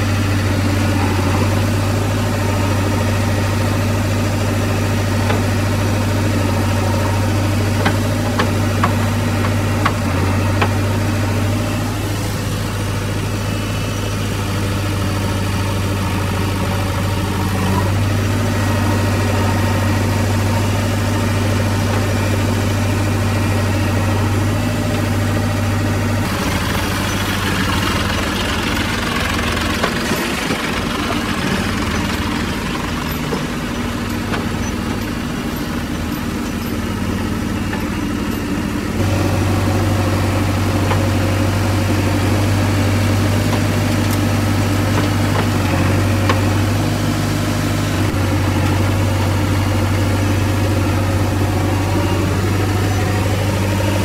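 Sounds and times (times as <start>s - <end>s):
diesel engine running: 0.0s - 54.0s
tractor engine running: 0.0s - 54.0s.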